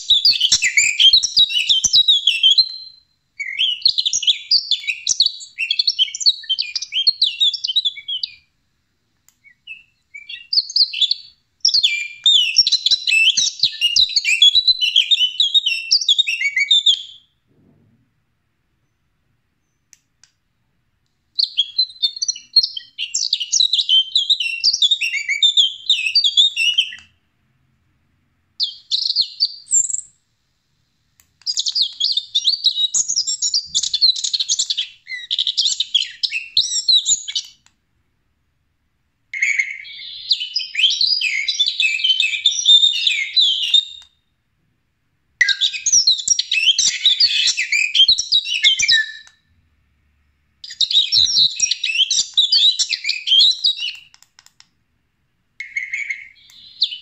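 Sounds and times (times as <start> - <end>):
recorded bird chirping from speaker: 0.0 - 8.6, 9.3 - 18.0, 18.7 - 20.5, 21.3 - 30.4, 31.3 - 37.8, 39.3 - 44.4, 45.4 - 54.7, 55.6 - 57.0.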